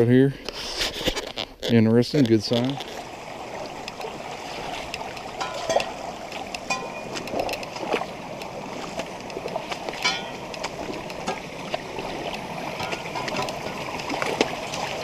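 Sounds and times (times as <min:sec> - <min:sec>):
stream running: 0:01.6 - 0:15.0.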